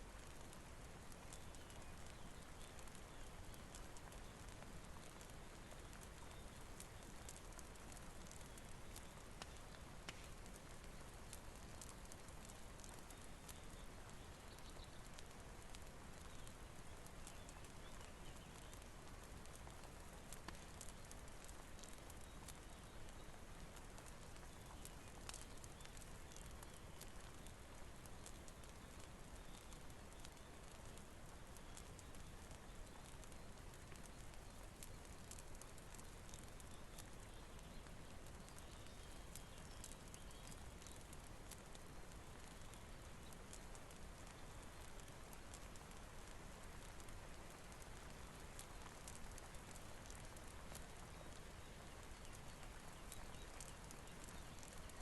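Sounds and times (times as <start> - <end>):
faint rain hiss: 0.0 - 55.0
wood fire crackling: 0.0 - 55.0.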